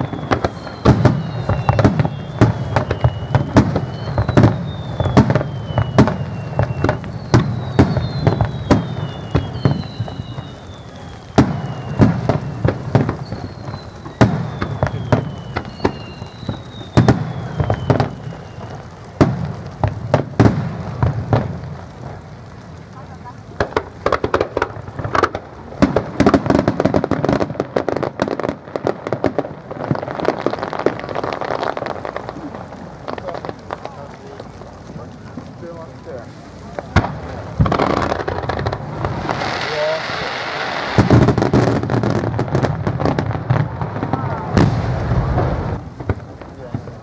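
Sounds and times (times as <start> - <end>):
falling firework whistles: 0.0 - 22.2, 23.0 - 47.0.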